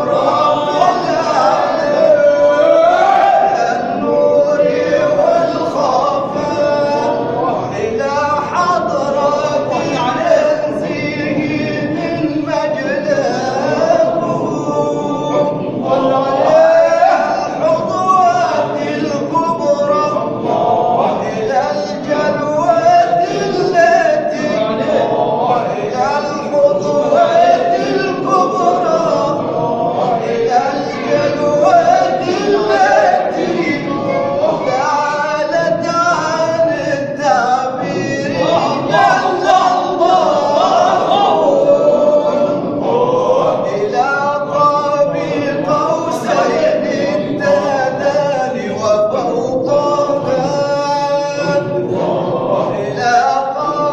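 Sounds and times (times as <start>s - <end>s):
men chanting together: 0.0s - 53.9s.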